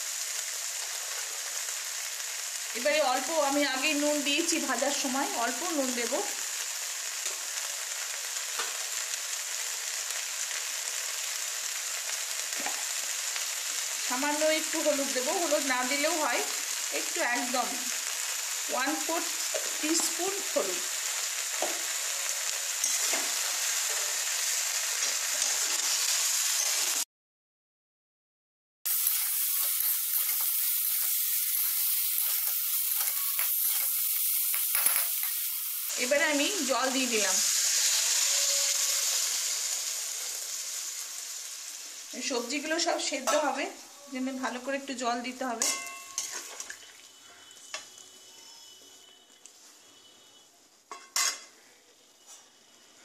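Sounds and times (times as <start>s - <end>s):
vegetables sizzling in a wok: 0.0s - 27.1s, 28.9s - 53.0s.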